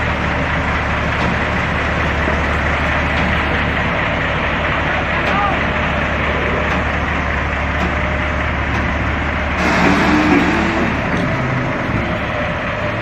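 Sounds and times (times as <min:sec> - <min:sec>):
forklift engine running: 0:00.0 - 0:13.0.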